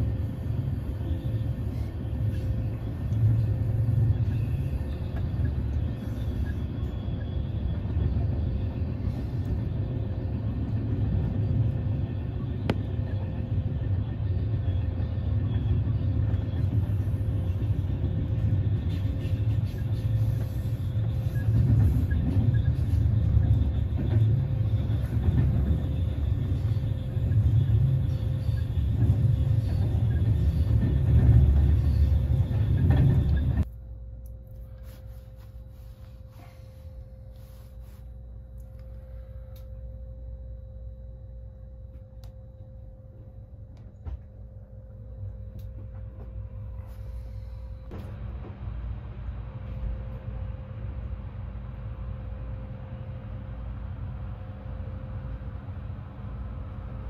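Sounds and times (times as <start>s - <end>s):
train carriage rumbling on rails: 0.0s - 57.0s.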